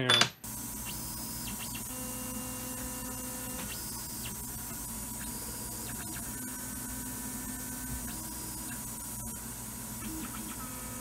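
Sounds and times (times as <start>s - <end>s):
machine hum: 0.4s - 11.0s
axis motors whining: 0.5s - 11.0s.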